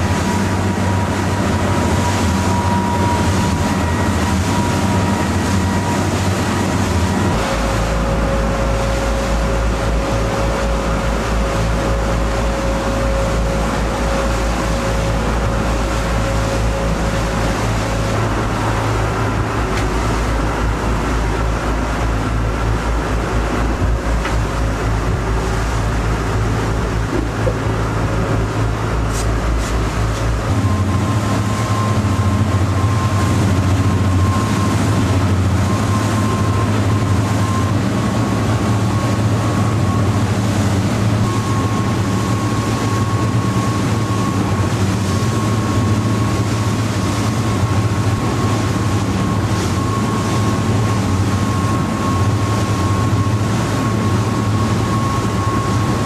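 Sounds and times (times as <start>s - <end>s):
motorboat engine running: 0.0s - 56.0s
thin steady whine: 0.0s - 56.0s.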